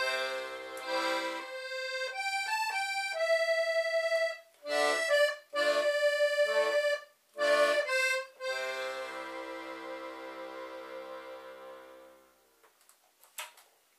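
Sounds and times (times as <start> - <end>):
concertina playing slow melody: 0.0 - 12.4.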